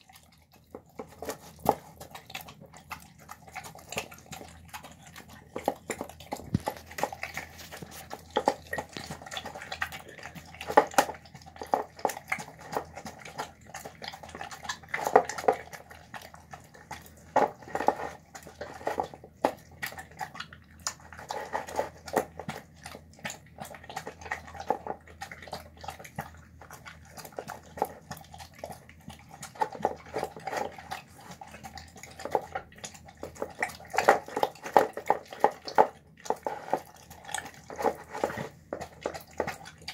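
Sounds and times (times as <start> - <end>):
dog eating from a bowl: 0.0 - 39.9.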